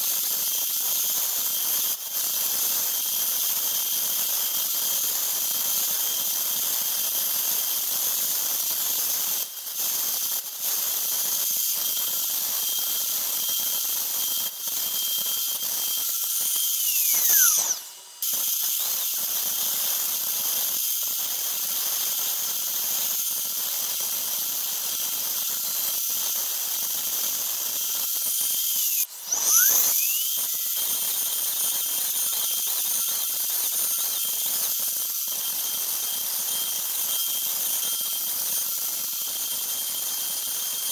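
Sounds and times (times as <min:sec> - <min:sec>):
router spindle whine: 0:00.1 - 0:40.9.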